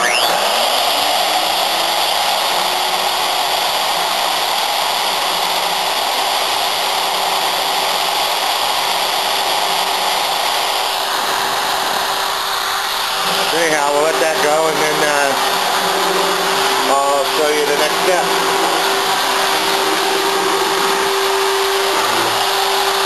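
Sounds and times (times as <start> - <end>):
router spindle whirring: 0.0 - 23.0.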